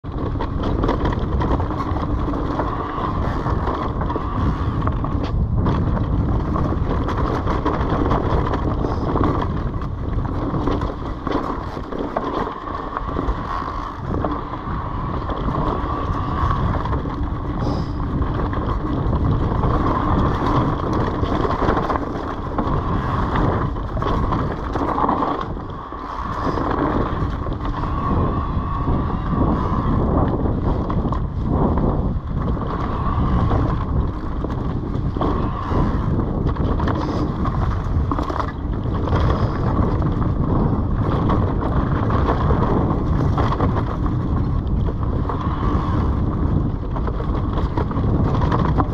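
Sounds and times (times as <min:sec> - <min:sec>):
bike clicks and rattles: 0:00.0 - 0:48.9
bike tyres on dirt: 0:00.0 - 0:48.9
wind rumble on microphone: 0:00.0 - 0:48.9.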